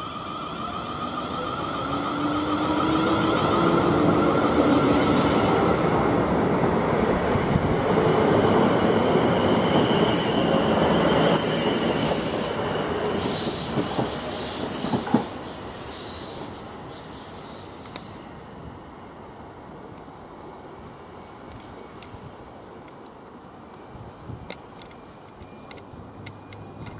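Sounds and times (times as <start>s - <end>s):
electric train running past: 0.0s - 26.9s.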